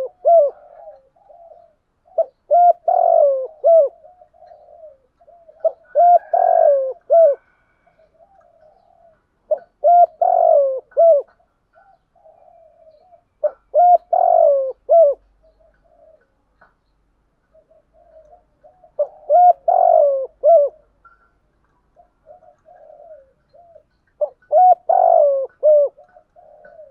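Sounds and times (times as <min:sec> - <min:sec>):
dove cooing: 0:00.0 - 0:16.4, 0:17.4 - 0:26.9.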